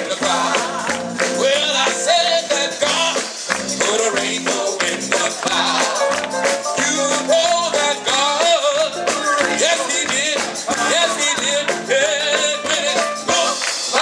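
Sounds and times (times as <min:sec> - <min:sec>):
gospel band playing: 0:00.0 - 0:14.0.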